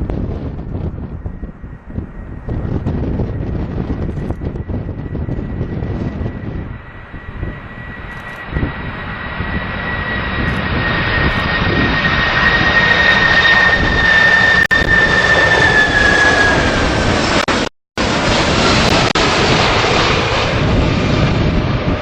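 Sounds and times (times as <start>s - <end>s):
high steady engine whine: 0.0s - 22.0s
jet airliner engines: 0.0s - 22.0s.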